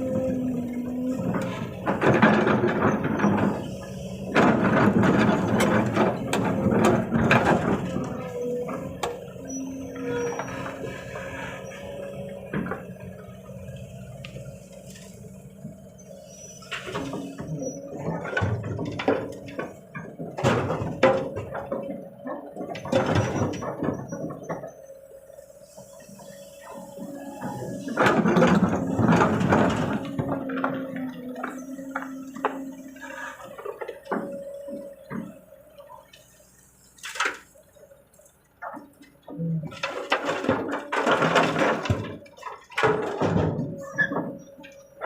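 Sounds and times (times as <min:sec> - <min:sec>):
excavator clattering and knocking: 0:00.0 - 0:45.0
excavator engine hum: 0:00.0 - 0:45.0.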